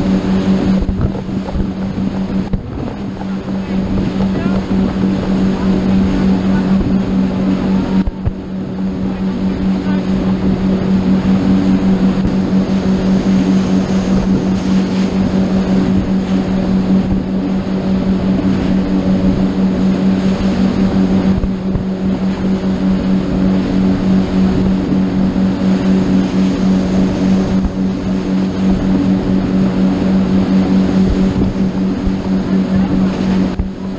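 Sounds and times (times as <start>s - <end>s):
motorboat engine droning: 0.0s - 33.9s
wind and water rushing: 0.0s - 33.9s.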